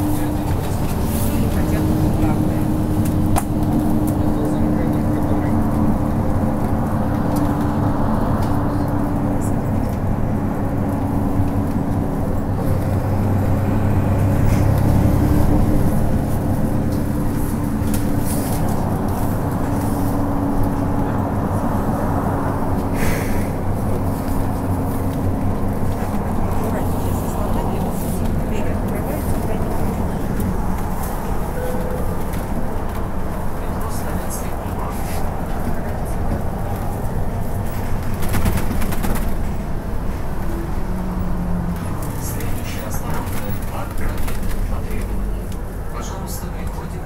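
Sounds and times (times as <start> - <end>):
bus engine hum: 0.0 - 47.0
road noise: 0.0 - 47.0.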